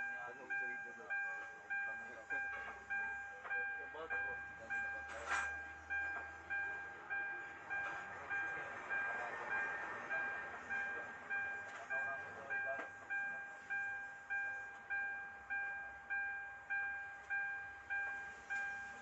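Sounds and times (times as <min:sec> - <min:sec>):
electronic warning chime dinging: 0:00.0 - 0:19.0.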